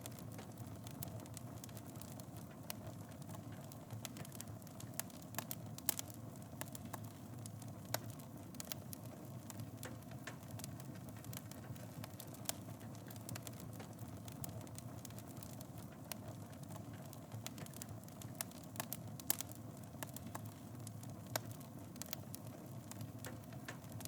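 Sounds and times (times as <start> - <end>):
flames roaring in fireplace: 0.0 - 24.0
wood fire crackling and popping: 0.0 - 24.0.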